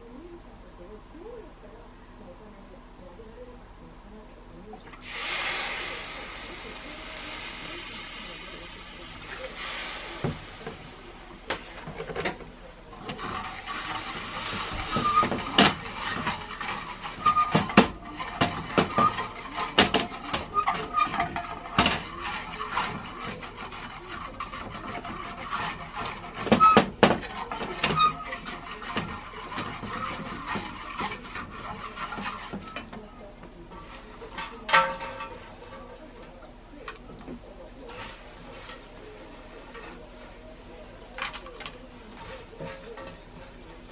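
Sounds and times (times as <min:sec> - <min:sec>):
utensil scraping a pan: 0:05.0 - 0:43.9.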